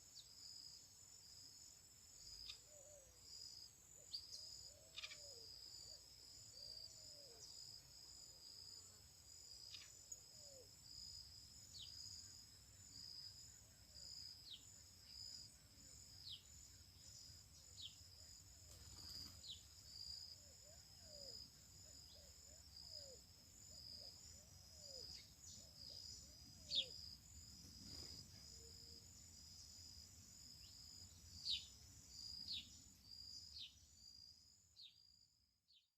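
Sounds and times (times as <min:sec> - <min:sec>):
insects trilling: 0:00.0 - 0:35.2.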